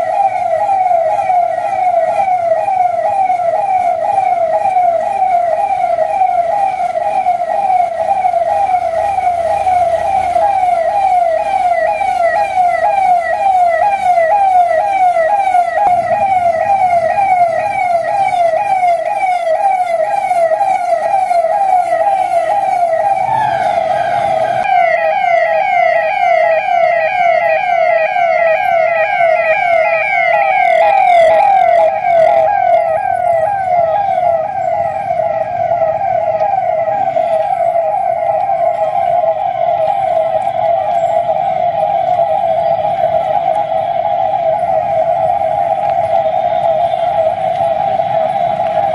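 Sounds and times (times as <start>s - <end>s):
police siren wailing: 0.0s - 48.9s.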